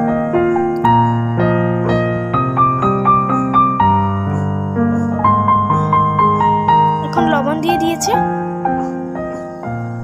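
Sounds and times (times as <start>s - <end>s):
gentle piano music: 0.0s - 10.0s.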